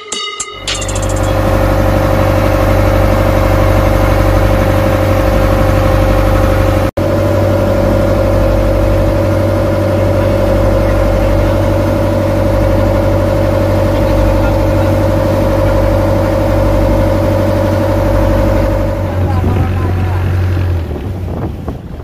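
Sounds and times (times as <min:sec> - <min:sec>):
boat engine running: 0:00.5 - 0:22.0.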